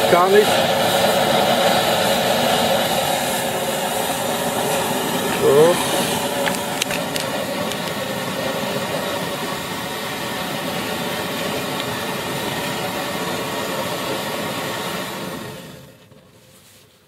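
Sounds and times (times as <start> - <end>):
pressure burner rushing: 0.0 - 17.0.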